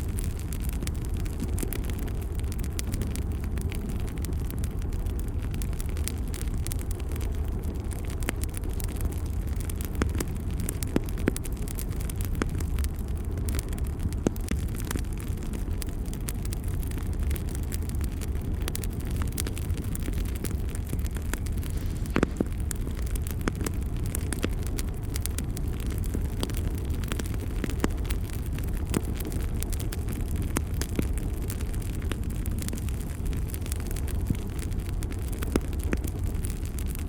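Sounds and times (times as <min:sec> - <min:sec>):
fire burning with crackles and pops: 0:00.0 - 0:37.0.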